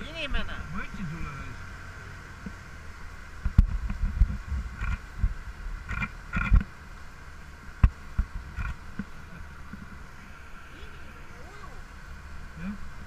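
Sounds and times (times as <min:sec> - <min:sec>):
boat engine rumble: 0:00.0 - 0:13.0
rushing wake: 0:00.0 - 0:13.0.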